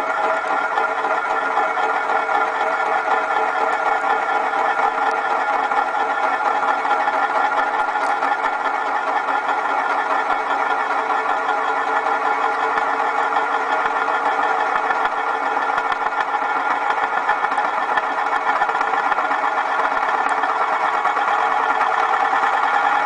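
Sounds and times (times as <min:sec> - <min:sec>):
glass spinning on tabletop: 0:00.0 - 0:23.0.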